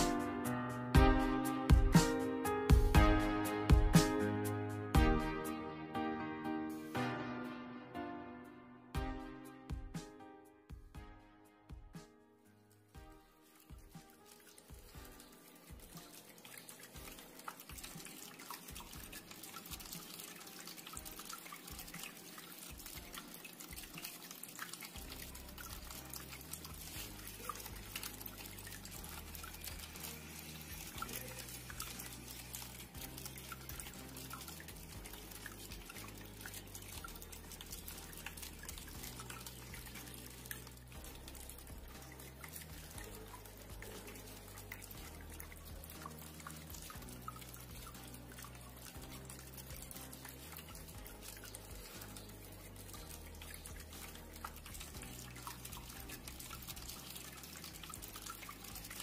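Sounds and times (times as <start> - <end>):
water splashing and dripping: 0.0 - 5.4, 12.6 - 59.0.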